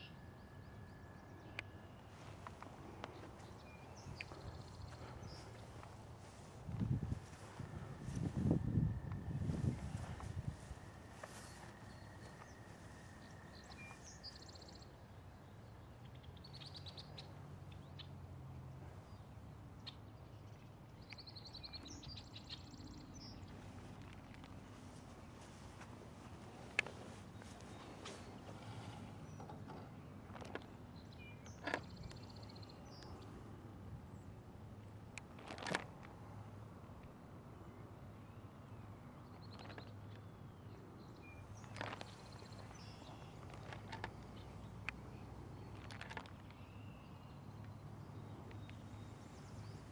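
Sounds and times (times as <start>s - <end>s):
birds chirping trills: 0.0s - 34.6s, 37.5s - 49.9s.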